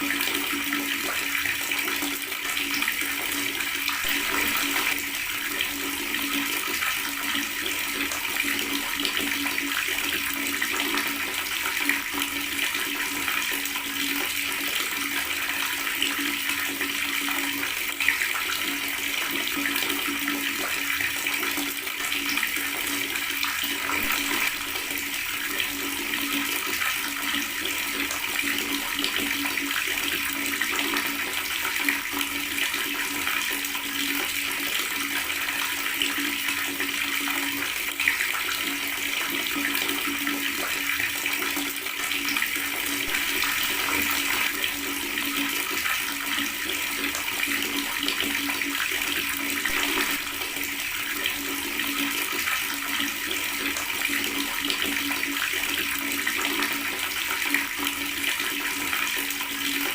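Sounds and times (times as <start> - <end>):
tap water running and gurgling: 0.0 - 59.9.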